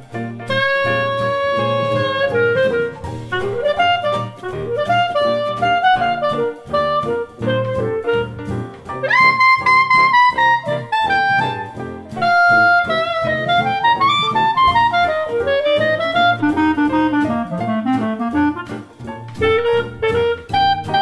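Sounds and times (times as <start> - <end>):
jazz woodwind melody: 0.0 - 21.0.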